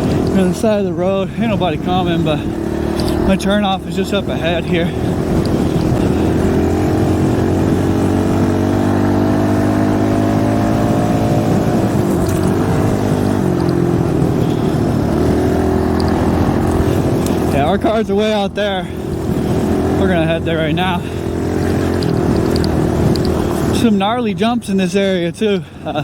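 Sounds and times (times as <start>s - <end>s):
dirt bike engine revving: 0.0s - 24.8s.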